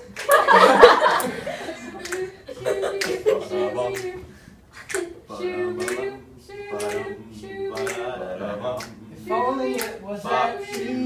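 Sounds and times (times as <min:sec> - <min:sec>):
group singing a cappella: 0:00.0 - 0:11.0.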